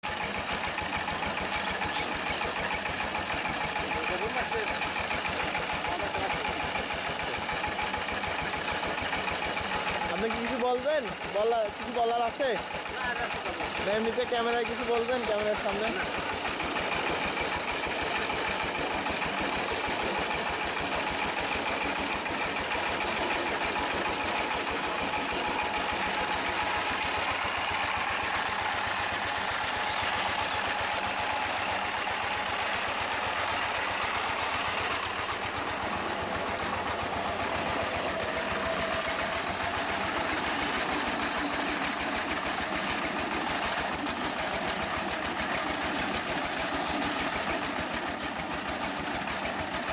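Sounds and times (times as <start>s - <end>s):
diesel tiller engine running: 0.0s - 49.9s.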